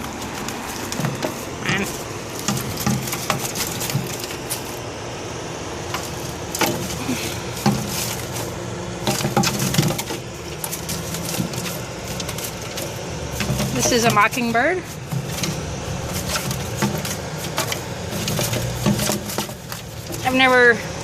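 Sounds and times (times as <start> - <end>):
cage knocks and rattles: 0.0 - 4.6, 5.9 - 20.3.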